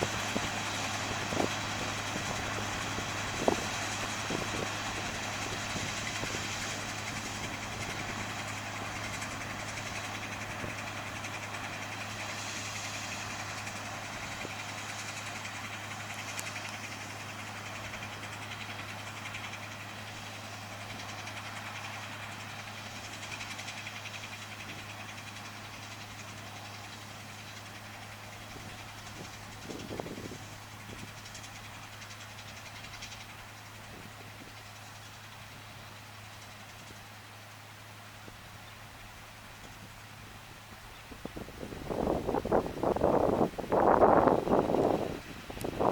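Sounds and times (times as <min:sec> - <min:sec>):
combine harvester humming: 0:00.0 - 0:45.9.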